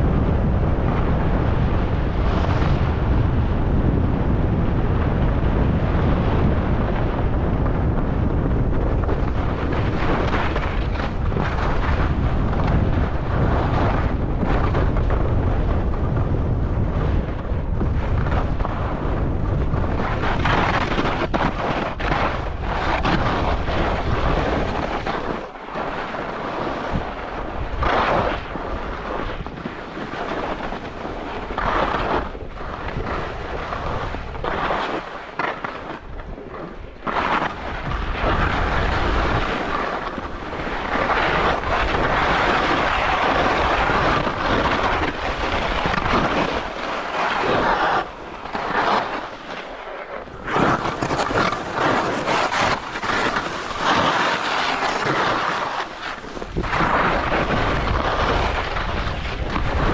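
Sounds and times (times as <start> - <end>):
skis scraping over snow: 0.0 - 59.9
wind rushing over microphone: 0.0 - 59.9.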